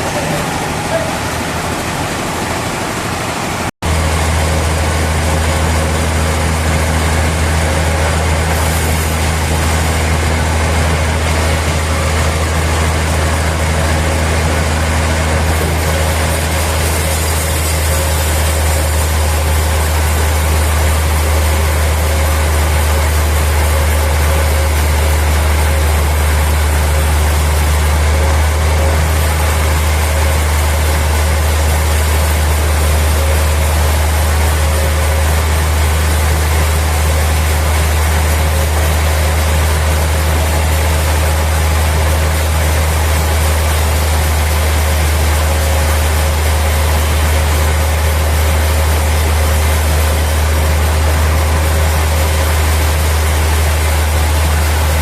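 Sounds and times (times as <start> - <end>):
heavy engine humming: 0.0 - 55.0.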